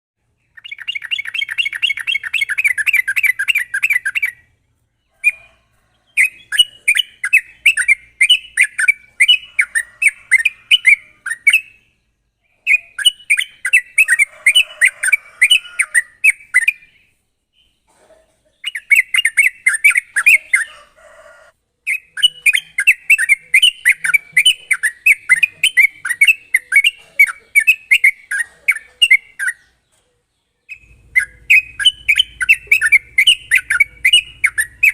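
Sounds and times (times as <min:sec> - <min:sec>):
bird singing rapid repeated notes: 0:00.2 - 0:17.9, 0:18.6 - 0:20.8, 0:21.8 - 0:34.9.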